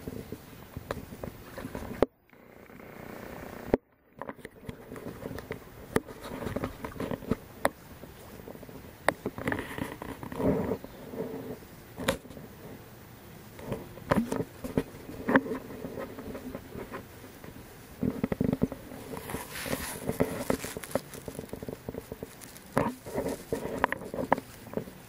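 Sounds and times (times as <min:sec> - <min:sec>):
rustling and crackling plants: 0:00.0 - 0:25.0.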